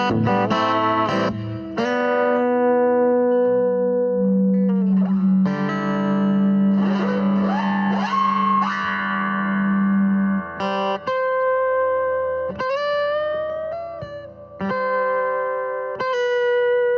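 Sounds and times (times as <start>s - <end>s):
electric guitar with effects: 0.0s - 16.9s.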